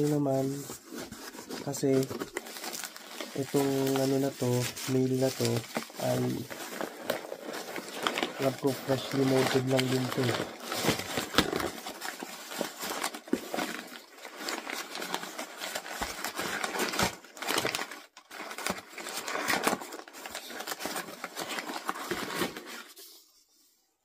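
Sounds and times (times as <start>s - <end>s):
packing paper rustling and crinkling: 0.0s - 23.3s.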